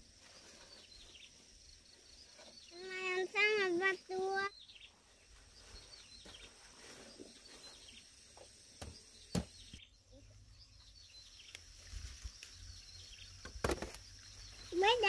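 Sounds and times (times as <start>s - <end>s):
faint bird chirps: 0.0s - 15.0s
quiet rural background noise: 0.0s - 15.0s.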